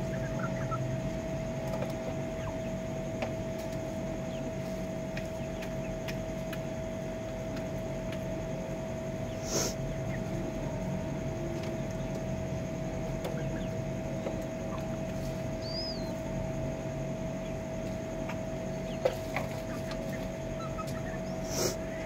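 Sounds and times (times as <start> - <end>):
chickens chirping: 0.0 - 22.0
steady hum: 0.0 - 22.0.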